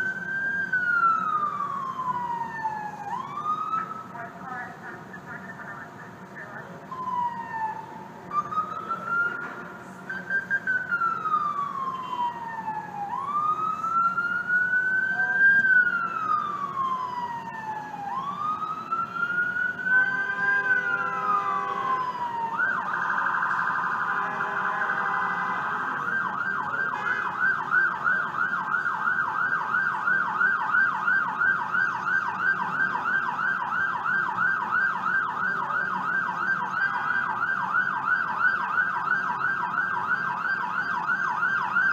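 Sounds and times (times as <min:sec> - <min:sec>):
ambulance siren wail and yelp: 0:00.0 - 0:41.9.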